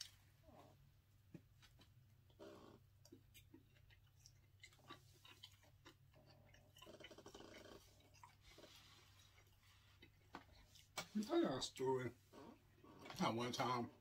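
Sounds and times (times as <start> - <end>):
chewing food: 0.0 - 11.8
low steady hum: 0.0 - 14.0.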